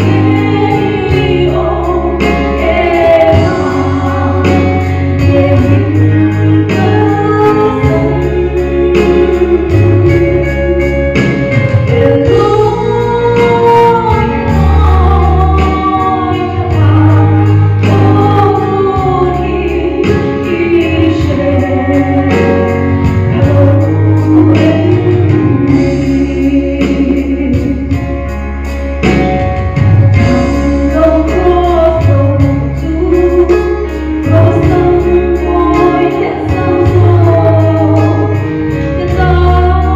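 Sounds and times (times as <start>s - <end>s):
woman singing: 0.0s - 11.2s, 11.9s - 28.2s, 30.2s - 39.9s
band backing with bass line: 0.0s - 39.9s.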